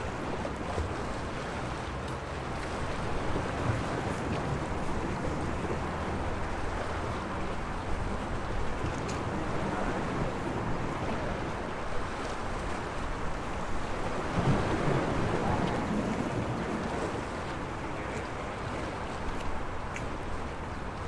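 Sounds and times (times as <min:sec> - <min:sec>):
sea waves washing ashore: 0:00.0 - 0:21.0.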